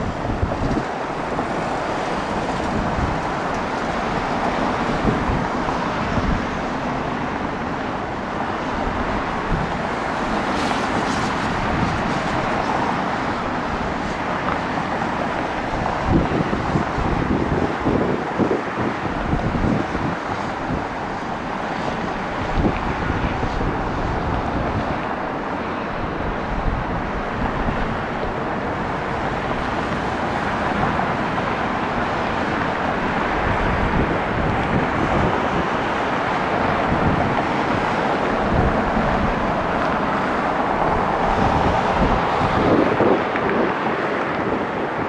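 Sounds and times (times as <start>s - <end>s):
jet engines rushing: 0.0s - 45.0s
wind buffeting microphone: 0.0s - 45.0s.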